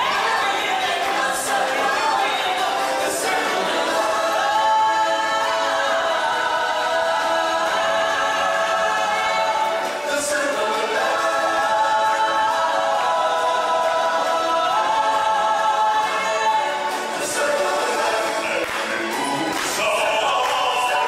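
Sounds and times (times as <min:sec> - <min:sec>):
backing music: 0:00.0 - 0:21.0
choir singing in harmony: 0:00.0 - 0:21.0.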